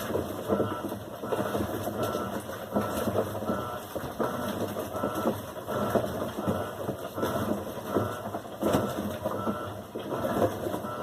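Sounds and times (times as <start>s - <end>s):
washing machine whirring: 0.0s - 11.0s.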